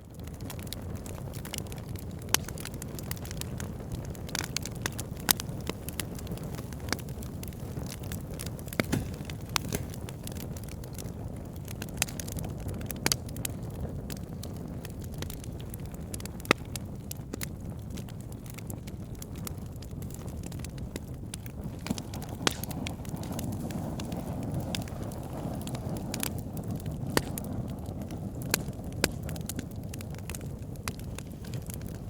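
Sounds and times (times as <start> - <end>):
fire crackling and popping: 0.0 - 32.0
rush of flames: 0.1 - 32.0.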